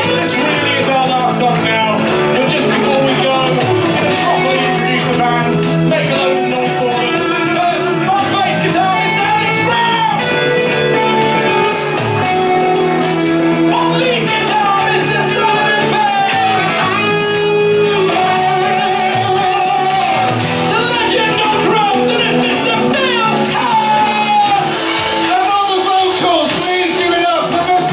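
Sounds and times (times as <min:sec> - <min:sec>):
person singing: 0:00.0 - 0:25.9
backing rhythm: 0:00.0 - 0:27.9
electric guitars: 0:00.0 - 0:27.9.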